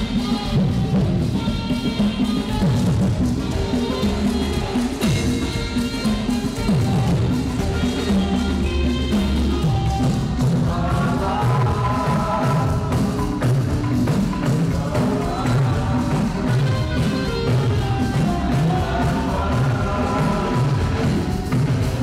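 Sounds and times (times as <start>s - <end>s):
bass and drums backing track: 0.0s - 22.0s
saxophone playing a melody: 0.0s - 22.0s.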